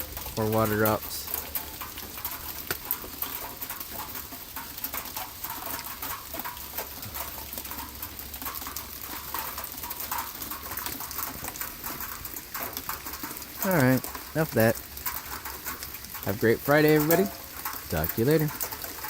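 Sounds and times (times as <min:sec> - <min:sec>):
ice and water drops pattering: 0:00.0 - 0:19.0.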